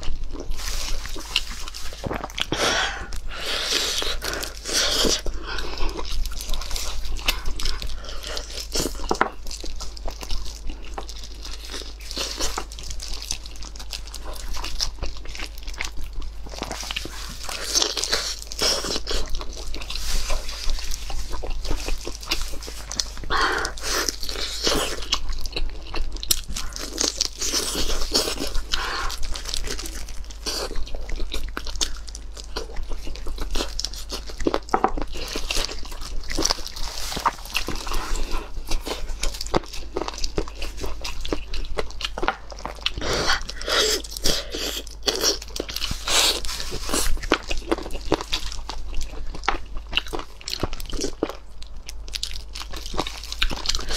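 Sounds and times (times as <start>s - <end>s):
biting and chewing: 0.0s - 53.9s.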